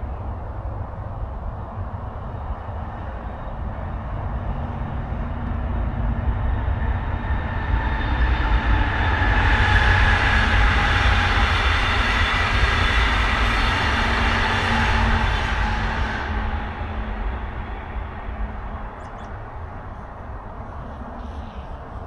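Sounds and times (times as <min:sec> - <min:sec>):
passenger train passing: 0:00.0 - 0:22.0.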